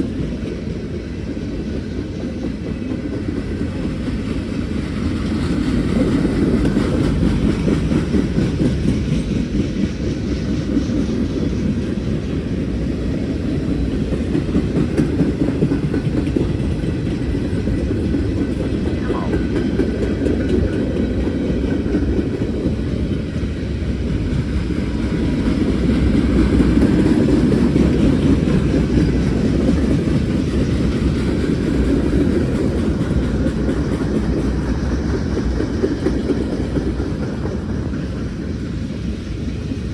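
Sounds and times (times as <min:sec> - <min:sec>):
freight train rumbling past: 0:00.0 - 0:39.9
wheels clacking over rail joints: 0:01.9 - 0:39.2.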